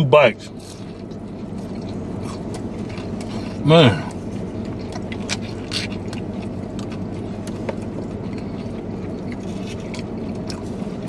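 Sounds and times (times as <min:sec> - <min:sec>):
low hum inside car: 0:00.0 - 0:11.0
chewing crisp food: 0:00.5 - 0:11.0.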